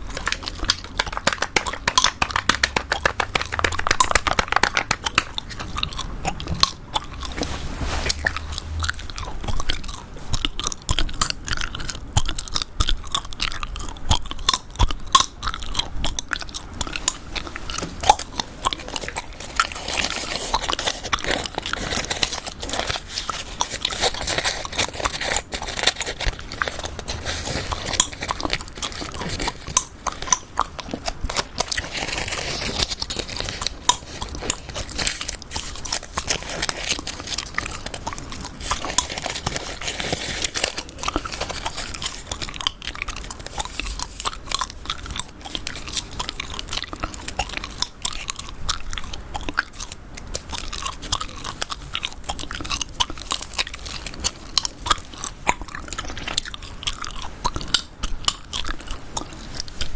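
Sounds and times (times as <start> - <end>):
gum chewing clicks and smacks: 0.0 - 7.4, 8.1 - 59.9.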